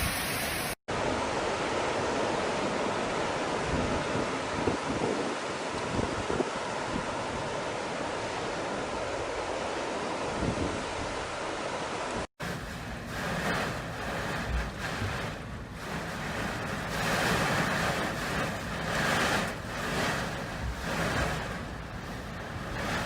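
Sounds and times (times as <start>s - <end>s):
rush of wind and water: 0.0s - 23.0s.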